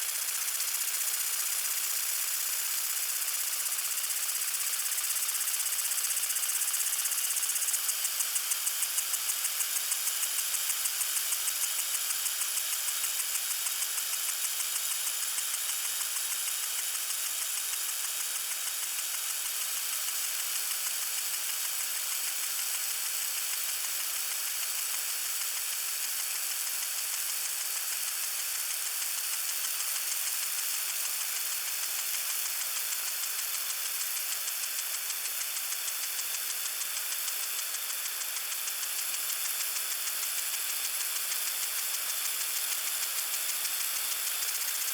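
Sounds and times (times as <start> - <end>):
garden sprinkler spraying water: 0.0 - 44.9.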